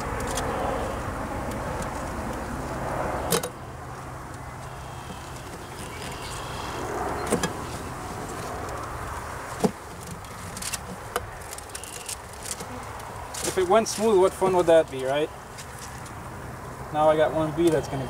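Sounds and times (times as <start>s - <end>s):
distant engine drone: 0.0s - 18.0s.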